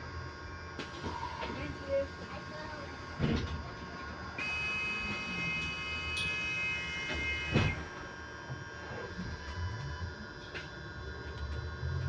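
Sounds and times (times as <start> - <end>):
electric bus motor whine: 0.0 - 12.0.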